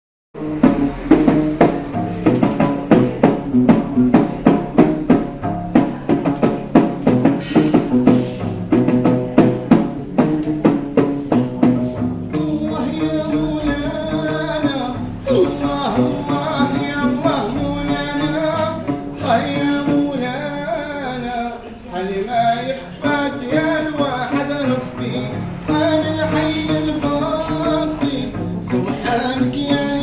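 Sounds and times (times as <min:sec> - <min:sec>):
plucked bass lute riff: 0:00.4 - 0:30.0.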